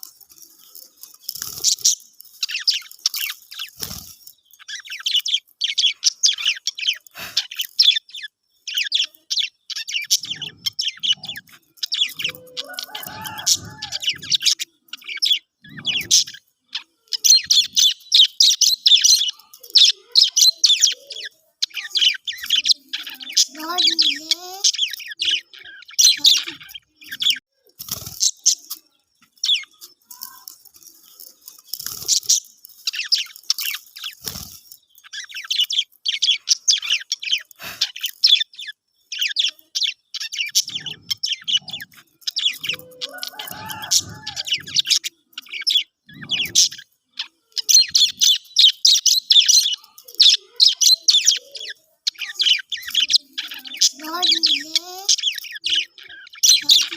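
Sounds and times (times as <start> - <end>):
budgerigars chattering and warbling: 0.0 - 56.9.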